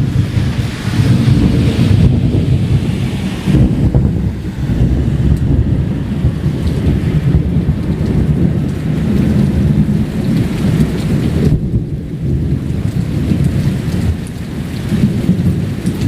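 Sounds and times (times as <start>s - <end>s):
rain hiss: 0.0s - 16.0s
thunder rumbling: 0.0s - 16.0s.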